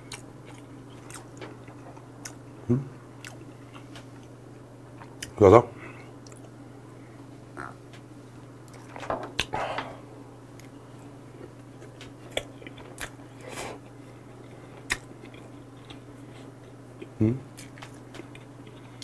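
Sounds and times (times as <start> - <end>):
man chewing food: 0.0 - 5.4, 6.1 - 6.6, 7.6 - 19.0
low electrical hum: 0.0 - 19.0.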